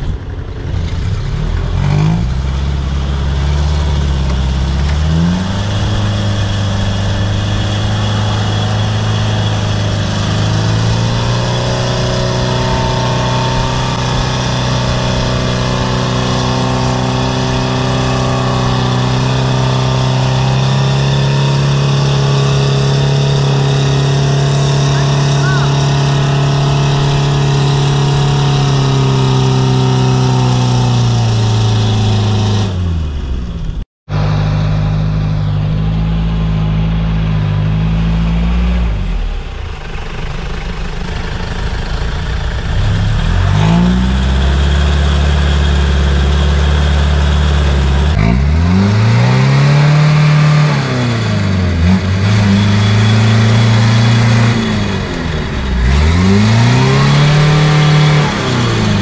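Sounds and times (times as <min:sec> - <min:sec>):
diesel engine revving hard: 0:00.0 - 0:59.0.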